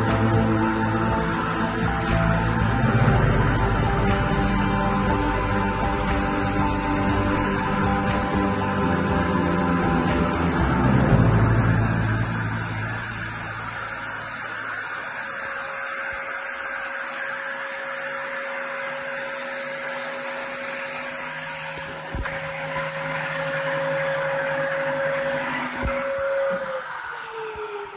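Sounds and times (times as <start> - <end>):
cnc machine whine: 0.0 - 27.9
hissing noise: 0.0 - 27.9.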